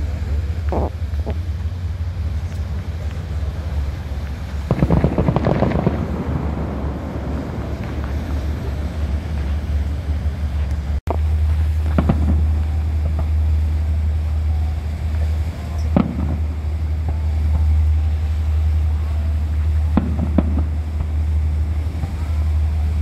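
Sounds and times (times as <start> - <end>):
ship engine rumble: 0.0 - 23.0
wind buffeting microphone: 0.0 - 23.0
fireworks bangs: 2.3 - 23.0.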